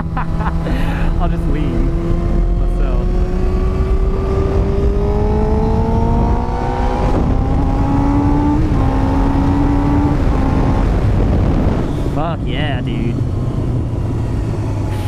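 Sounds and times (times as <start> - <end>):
motorcycle engine accelerating: 0.0 - 15.0
wind rush on microphone: 0.0 - 15.0.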